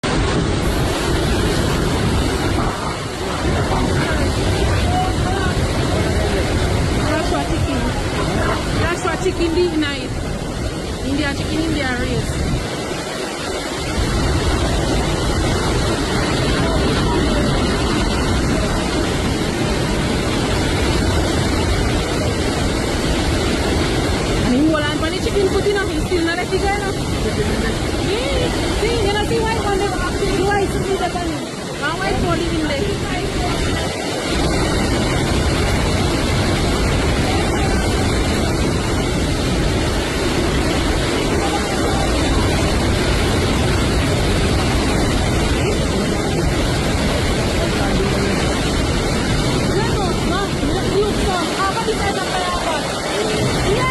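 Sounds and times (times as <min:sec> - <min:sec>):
heavy rain: 0:00.0 - 0:53.9
hurricane wind: 0:00.0 - 0:53.9.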